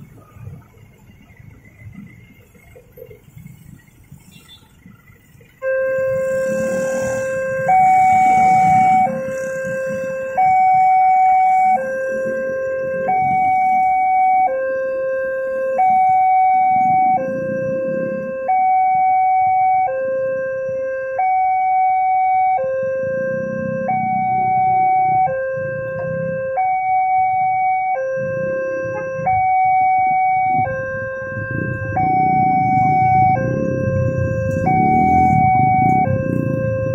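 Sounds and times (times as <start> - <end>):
level crossing two-tone alarm: 5.6 - 36.9.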